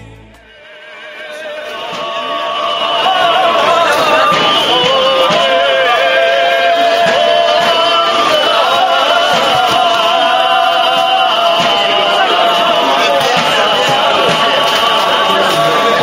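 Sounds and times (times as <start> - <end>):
men singing in harmony: 0.3 - 16.0.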